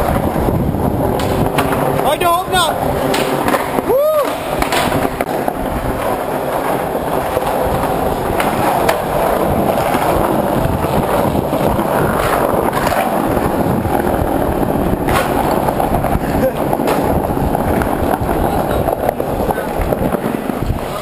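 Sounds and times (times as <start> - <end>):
skateboard clacks: 0.0 - 21.0
skateboard wheels rumbling: 0.0 - 21.0.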